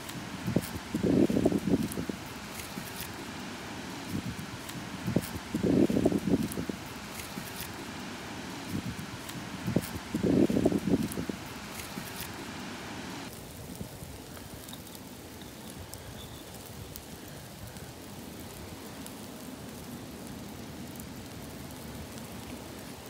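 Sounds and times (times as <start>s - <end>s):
embers crackling and popping: 0.0s - 23.0s.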